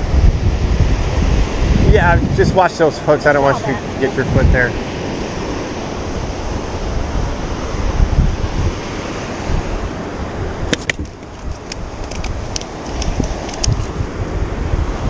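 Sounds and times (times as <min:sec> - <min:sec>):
ocean surf on beach: 0:00.0 - 0:15.0
wind buffeting microphone: 0:00.0 - 0:15.0.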